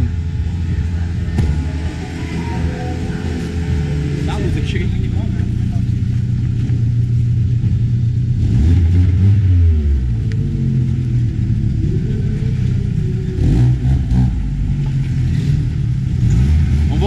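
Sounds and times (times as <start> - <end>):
bass-heavy music from subwoofers: 0.0 - 17.0.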